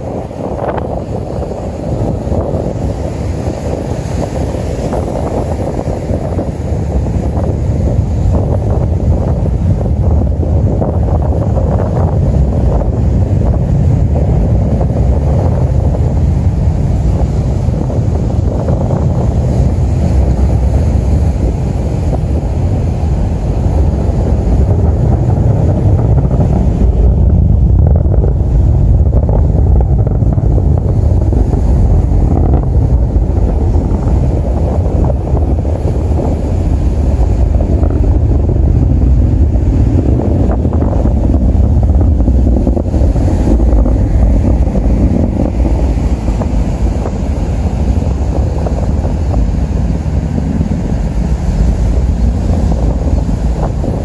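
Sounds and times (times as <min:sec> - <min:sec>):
distant rocket engine rumble: 0:00.0 - 0:54.0
wind on microphone: 0:00.0 - 0:54.0.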